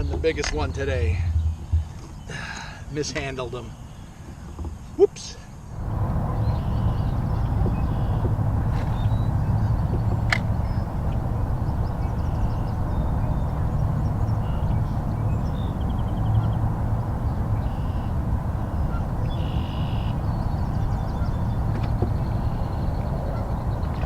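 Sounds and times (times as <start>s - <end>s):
water noise: 0.0s - 3.4s, 5.7s - 24.0s
low wind: 0.0s - 24.0s
faint bird calls: 1.0s - 24.0s.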